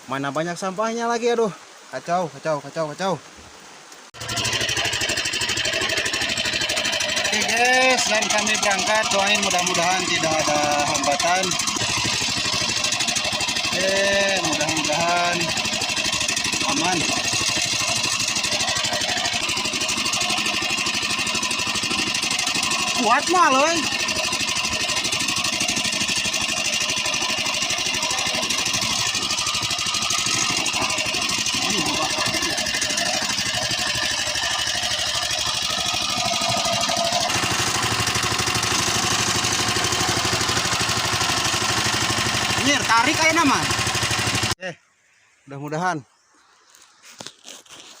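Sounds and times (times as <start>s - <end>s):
boat engine running: 4.2s - 44.6s.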